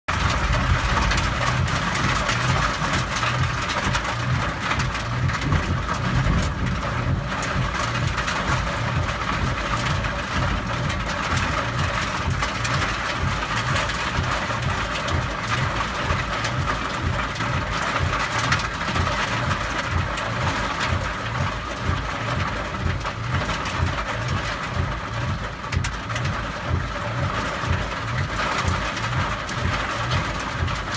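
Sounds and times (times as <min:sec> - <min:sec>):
heavy rain hissing: 0:00.1 - 0:30.9
low regular thudding: 0:00.1 - 0:30.9.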